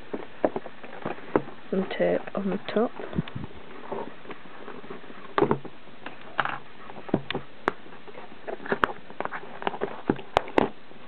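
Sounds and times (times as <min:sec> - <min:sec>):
cardboard box rustling: 0:00.0 - 0:10.8.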